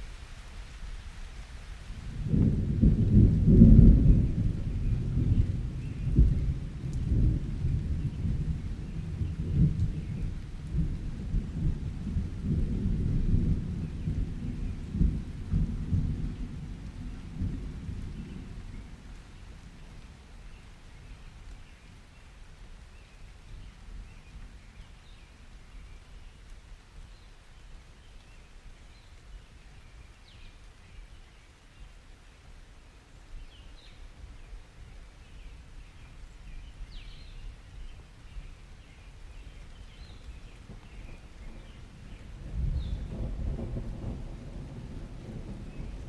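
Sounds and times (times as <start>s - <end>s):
low rumble of rain and thunder: 0.0s - 46.0s.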